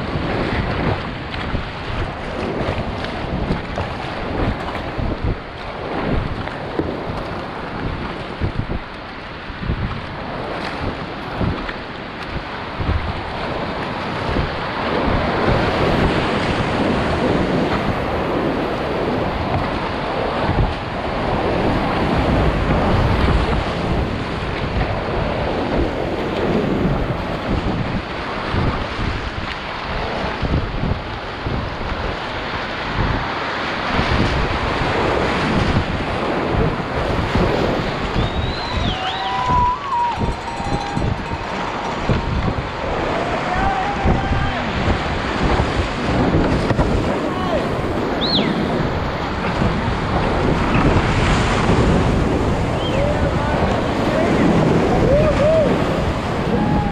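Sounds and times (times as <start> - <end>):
whitewater rushing: 0.0 - 56.9
wind buffeting microphone: 0.0 - 56.9.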